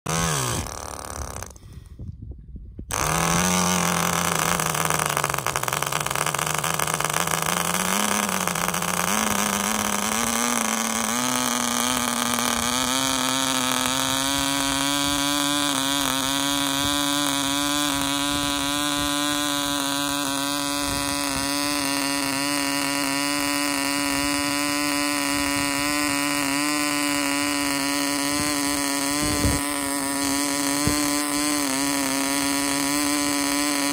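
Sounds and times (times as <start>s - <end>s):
model engine whining: 0.0s - 1.9s, 2.9s - 33.9s.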